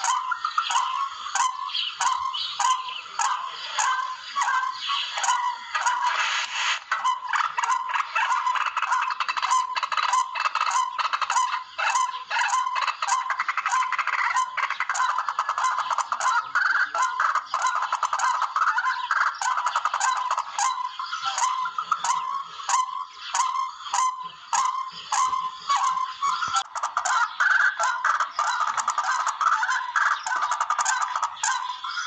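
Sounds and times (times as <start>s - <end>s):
rail birds squawking calls: 0.0s - 32.0s.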